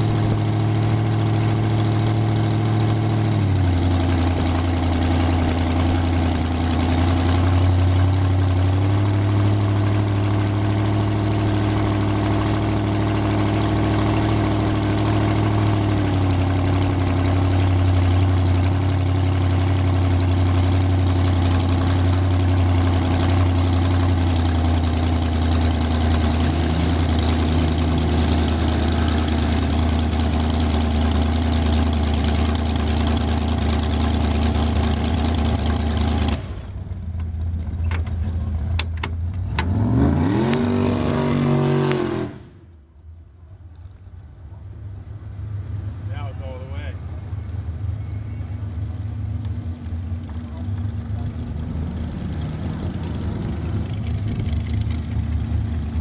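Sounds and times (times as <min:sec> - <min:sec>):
dragster engine idling: 0:00.0 - 0:39.4, 0:46.2 - 0:56.0.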